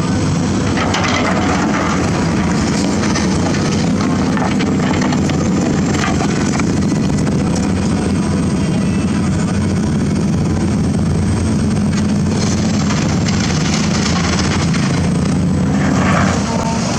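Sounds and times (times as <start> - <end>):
diesel engine humming: 0.0 - 16.9.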